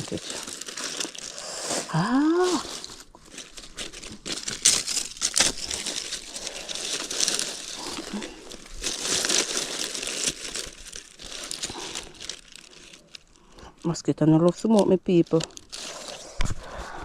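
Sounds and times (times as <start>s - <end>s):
dry leaves and twigs crackling: 0.0s - 16.5s.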